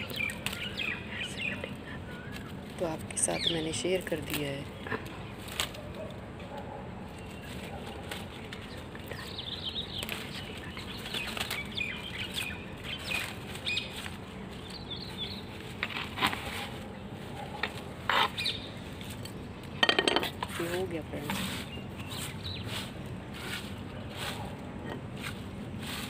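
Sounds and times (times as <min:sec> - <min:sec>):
birds chirping: 0:00.0 - 0:25.8
shrub leaves rustling: 0:00.0 - 0:26.0.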